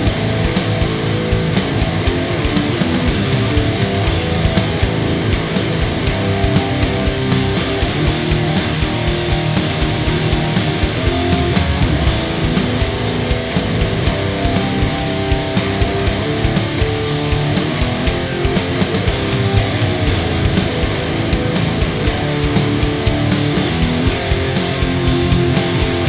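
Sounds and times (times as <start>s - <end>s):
electric guitars: 0.0s - 26.0s
rapid drum hits: 0.0s - 26.0s.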